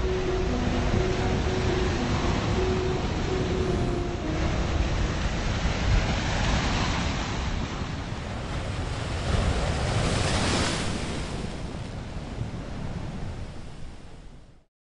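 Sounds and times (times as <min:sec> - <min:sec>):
ocean surf breaking on rocks: 0:00.0 - 0:13.9.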